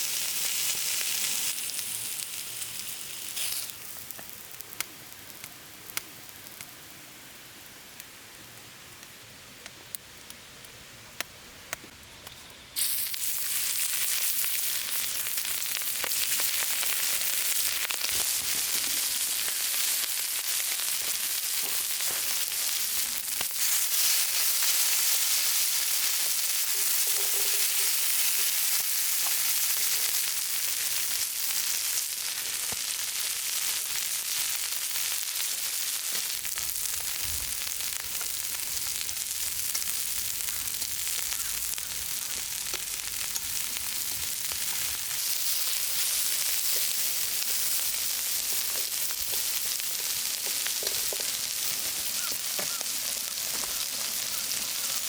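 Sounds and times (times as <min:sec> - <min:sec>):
food sizzling in hot fat: 0:00.0 - 0:08.4, 0:12.3 - 0:55.0.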